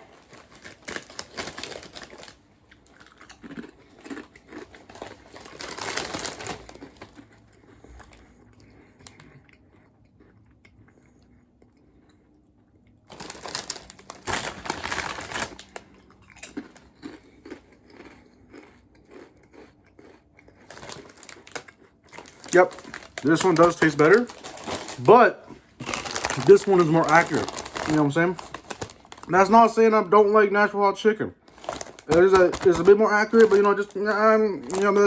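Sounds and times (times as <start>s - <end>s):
chip bag crinkling: 0.0s - 9.4s, 13.1s - 29.8s, 31.4s - 35.0s
potato chips crunched and chewed: 0.0s - 10.8s, 11.6s - 29.5s, 31.5s - 35.0s.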